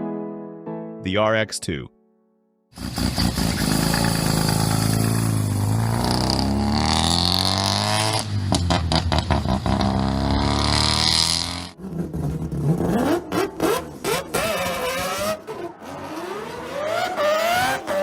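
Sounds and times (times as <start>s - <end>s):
rotary engine revving: 2.8s - 18.0s.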